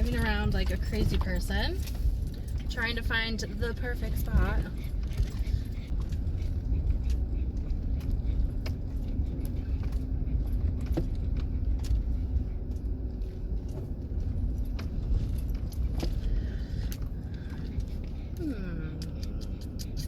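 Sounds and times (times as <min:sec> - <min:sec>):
vehicle cabin low rumble: 0:00.0 - 0:20.0.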